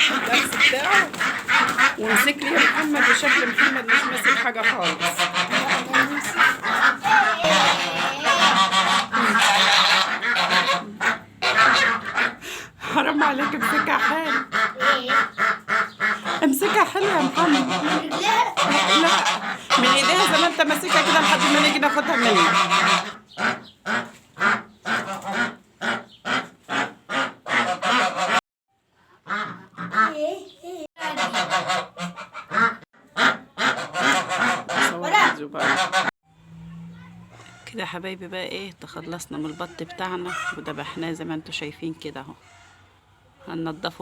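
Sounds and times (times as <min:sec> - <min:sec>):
domestic waterfowl calling: 0:00.0 - 0:28.4, 0:29.0 - 0:36.1, 0:39.2 - 0:41.2
duck quacking loudly: 0:00.0 - 0:28.4, 0:29.2 - 0:30.4, 0:31.0 - 0:36.1, 0:39.4 - 0:41.0.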